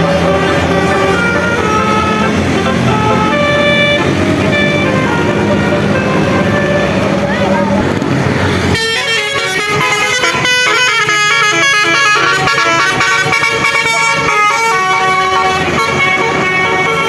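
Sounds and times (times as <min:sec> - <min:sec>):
bus musical air horn melody: 0:00.0 - 0:07.8, 0:08.5 - 0:17.0.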